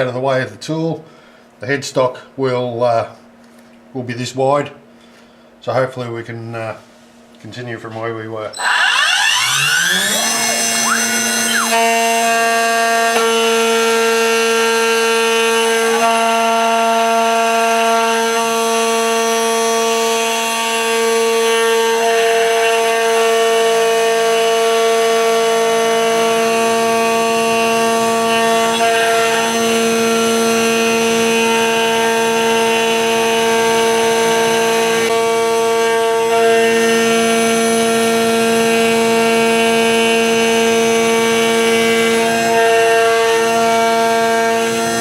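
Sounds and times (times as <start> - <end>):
cutter cutting wood: 8.6 - 45.0
router spindle whine: 8.6 - 45.0.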